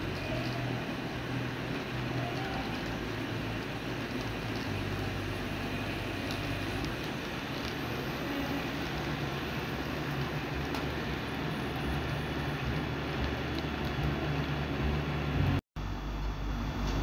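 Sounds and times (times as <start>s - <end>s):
model train motor humming: 0.0s - 15.6s
wheels rolling on rails: 0.0s - 15.6s.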